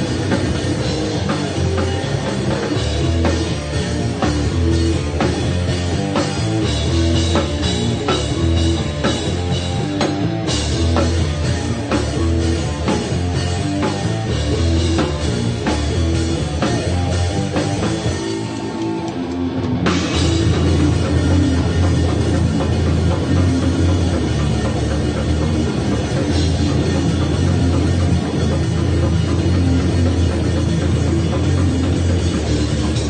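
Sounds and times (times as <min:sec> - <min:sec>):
drum kit pounding beat: 0:00.0 - 0:33.0
heavy rock band playing: 0:00.0 - 0:33.0.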